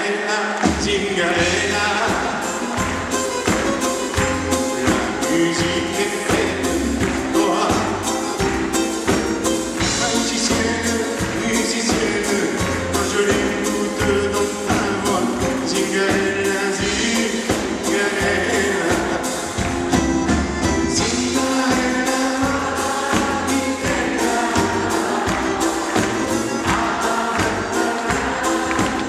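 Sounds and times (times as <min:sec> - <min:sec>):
male singer: 0:00.0 - 0:03.2, 0:04.5 - 0:08.8, 0:09.7 - 0:19.9, 0:20.8 - 0:29.0
hand drums: 0:00.7 - 0:29.0
acoustic guitars: 0:00.8 - 0:29.0.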